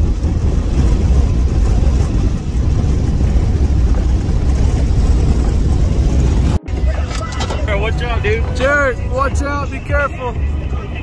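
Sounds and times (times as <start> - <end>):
van road and engine rumble: 0.0 - 11.0.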